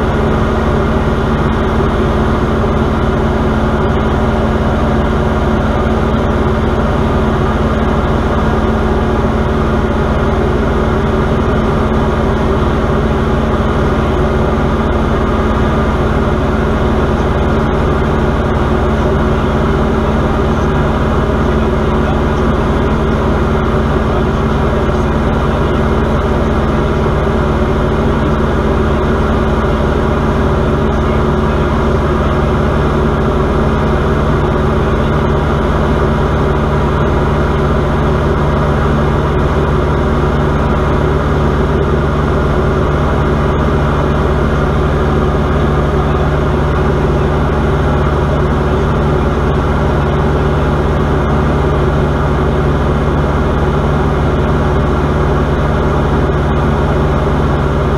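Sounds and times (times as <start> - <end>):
aircraft engine and propeller drone: 0.0 - 57.9.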